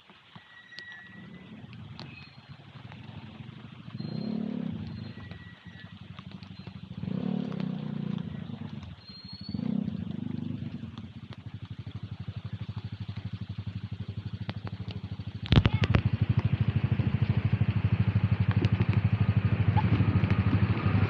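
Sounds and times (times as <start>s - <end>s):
motorcycle engines passing: 1.1s - 21.0s
motorcycle engine idling: 1.2s - 21.0s.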